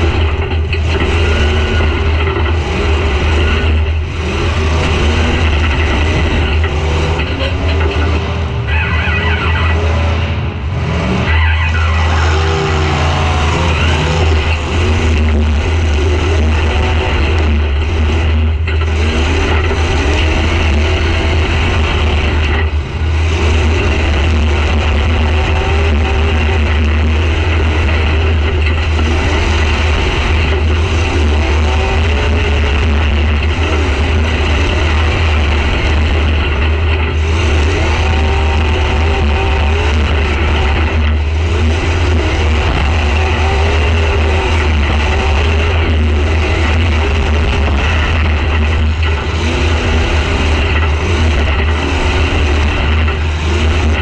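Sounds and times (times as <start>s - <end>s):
car engine revving: 0.0s - 54.0s
heavy low rumble: 0.0s - 54.0s.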